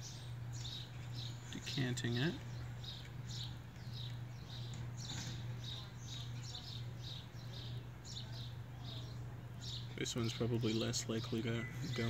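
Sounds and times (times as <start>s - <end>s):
small bird chirping: 0.0s - 12.0s
steady low hum: 0.0s - 12.0s.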